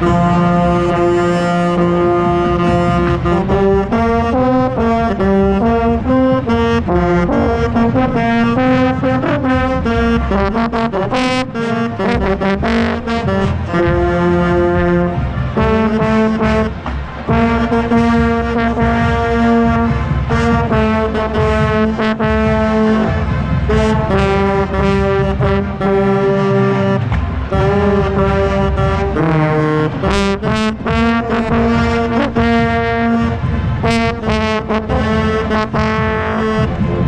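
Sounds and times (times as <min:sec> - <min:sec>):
drum strokes: 0:00.0 - 0:37.0
marching band playing: 0:00.0 - 0:37.0
tenor saxophone: 0:00.0 - 0:37.0.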